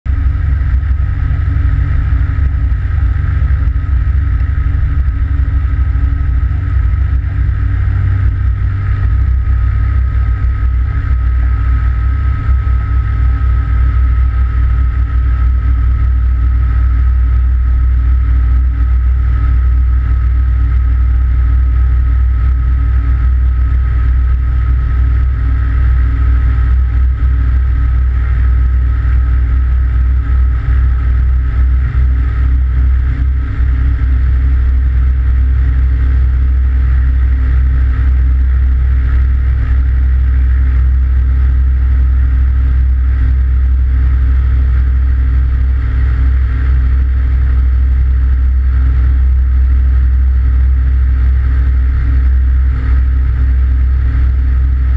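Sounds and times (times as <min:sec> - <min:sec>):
aircraft engine and propeller: 0:00.1 - 0:54.9.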